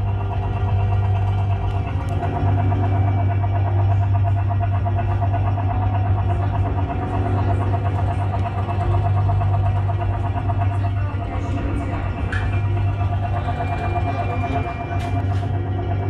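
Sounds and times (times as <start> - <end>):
loud low hum: 0.0 - 16.0
rapidly pulsing tone: 0.0 - 16.0.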